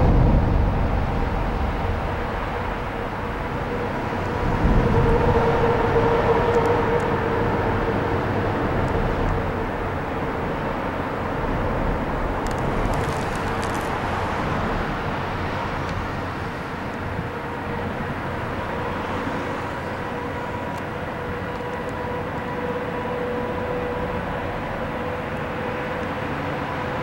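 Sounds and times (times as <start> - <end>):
highway traffic roar: 0.0 - 27.0.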